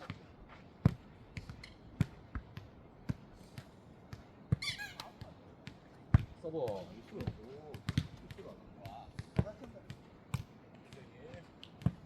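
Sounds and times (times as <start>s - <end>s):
ball kicked and bouncing thuds: 0.0s - 12.0s.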